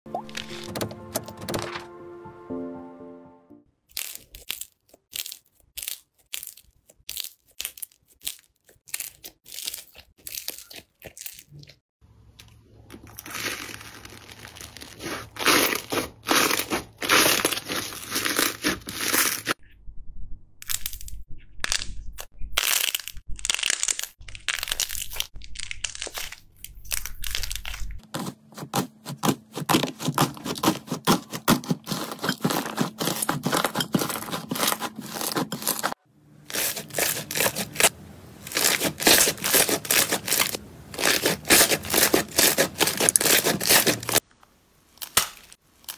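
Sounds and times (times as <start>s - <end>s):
slime crackling and squishing: 3.8s - 11.8s, 12.5s - 19.6s, 20.6s - 44.2s.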